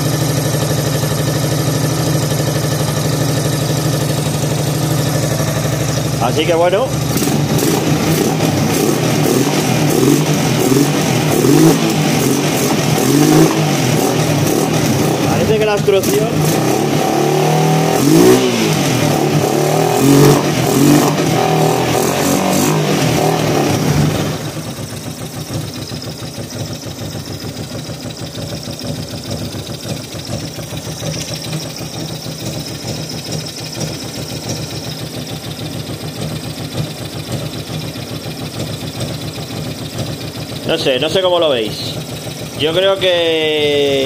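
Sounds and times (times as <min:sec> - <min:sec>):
motorcycle engine revving and idling: 0:00.0 - 0:44.0.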